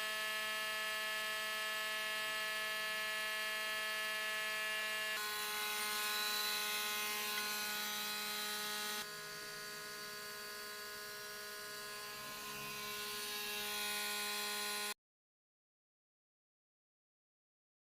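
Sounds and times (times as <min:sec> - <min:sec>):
woodworking power tool motor whine: 0:00.0 - 0:15.0.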